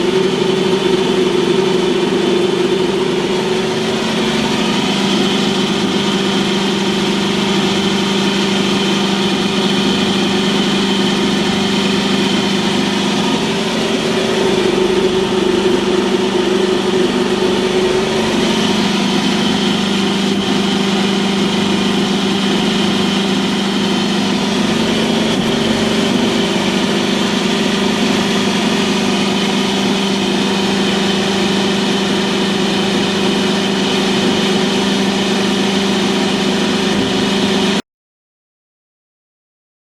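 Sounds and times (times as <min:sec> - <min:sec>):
hydraulic pump motor humming: 0:00.0 - 0:37.8.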